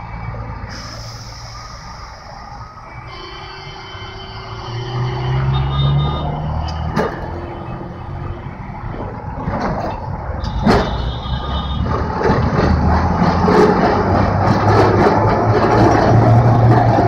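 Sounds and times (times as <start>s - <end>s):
traffic: 0.0s - 17.0s
tram rumbling on rails: 0.0s - 17.0s.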